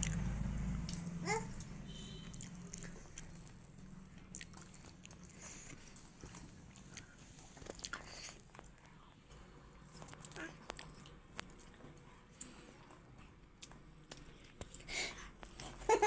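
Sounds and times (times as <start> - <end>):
toddler crunching and chewing: 0.0 - 9.1, 9.8 - 16.0.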